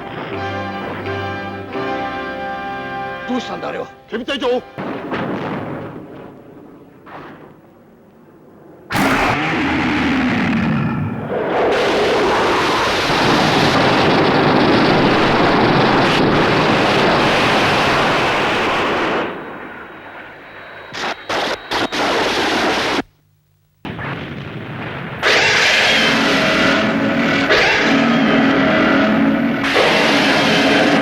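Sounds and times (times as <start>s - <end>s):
rumbling explosions: 0.0s - 1.4s, 4.7s - 23.0s, 23.8s - 31.0s.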